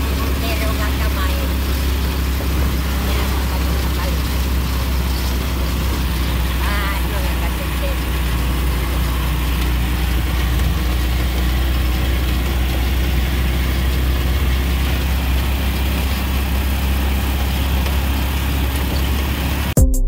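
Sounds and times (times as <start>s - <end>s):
road noise: 0.0s - 19.8s
vehicle engine droning: 0.0s - 19.8s.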